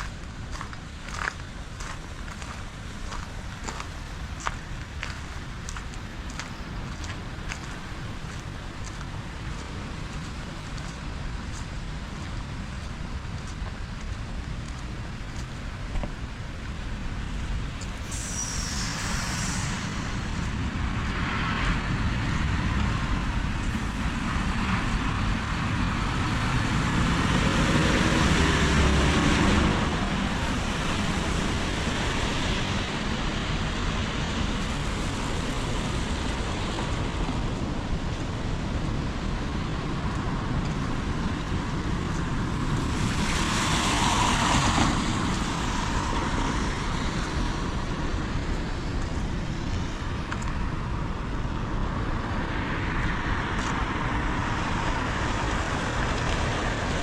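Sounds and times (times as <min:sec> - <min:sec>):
steady rain hiss: 0:00.0 - 0:26.7, 0:28.0 - 0:57.0
vehicle passing on wet road: 0:00.0 - 0:57.0.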